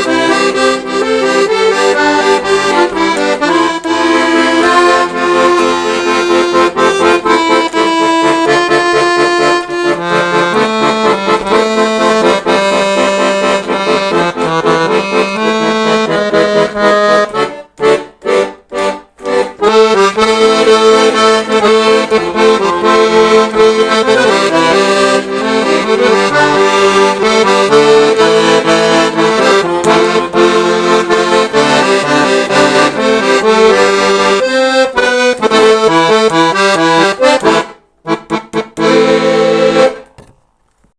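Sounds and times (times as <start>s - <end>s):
accordion playing: 0.0s - 40.9s.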